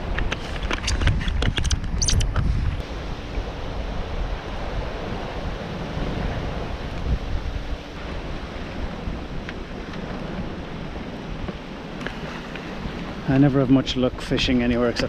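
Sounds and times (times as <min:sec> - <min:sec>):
wind buffeting microphone: 0:00.0 - 0:15.0
sea water rushing: 0:01.6 - 0:15.0.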